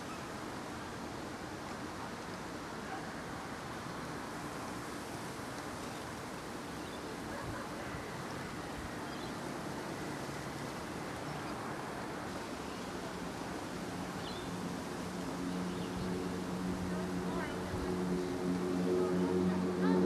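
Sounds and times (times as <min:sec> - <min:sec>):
steady rush of noise: 0:00.0 - 0:20.0.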